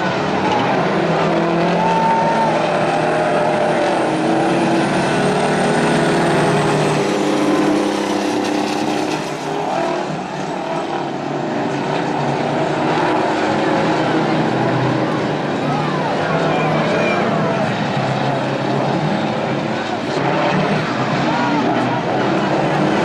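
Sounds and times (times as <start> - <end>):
truck diesel engines racing: 0.0 - 23.0.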